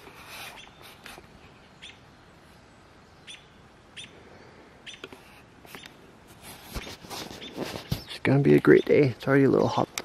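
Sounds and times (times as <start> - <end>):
faint outdoor hiss: 0.0 - 10.0
bird chirping: 0.4 - 4.2, 4.8 - 6.1, 6.8 - 10.0.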